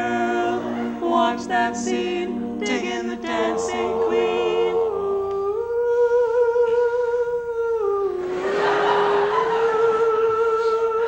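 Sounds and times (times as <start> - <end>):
men humming a cappella: 0.0 - 11.0.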